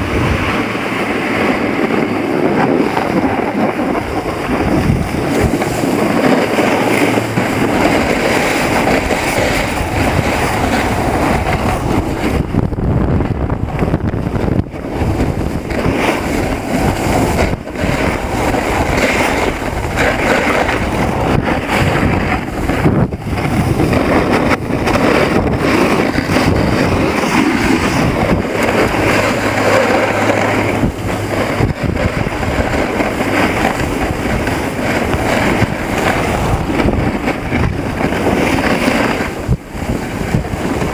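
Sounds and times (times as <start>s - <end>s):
snowboard sliding over snow: 0.0s - 40.9s
wind buffeting microphone: 0.0s - 40.9s.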